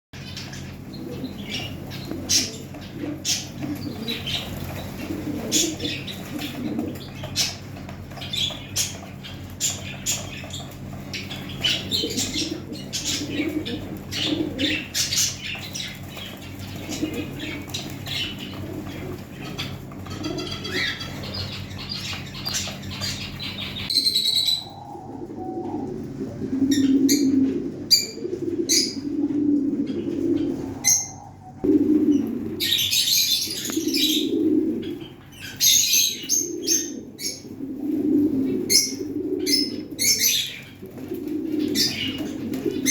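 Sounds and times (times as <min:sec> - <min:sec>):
small birds chirping: 0:00.2 - 0:26.0, 0:26.6 - 0:29.2, 0:29.8 - 0:37.7, 0:38.4 - 0:42.9
pigeons cooing: 0:00.2 - 0:42.9
steady low hum: 0:00.2 - 0:42.9.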